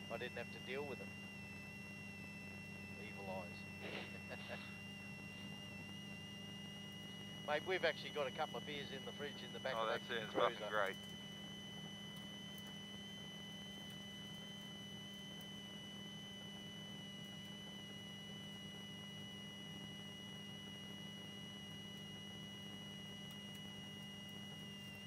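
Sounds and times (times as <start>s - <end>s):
low electrical hum: 0.0s - 25.0s
thin high whine: 0.0s - 25.0s.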